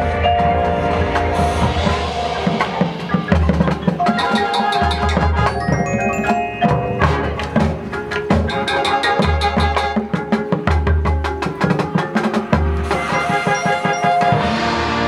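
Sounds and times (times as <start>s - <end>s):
drums: 0.0s - 15.0s
high bell-like notes: 0.0s - 15.0s
marching band playing: 0.0s - 15.0s.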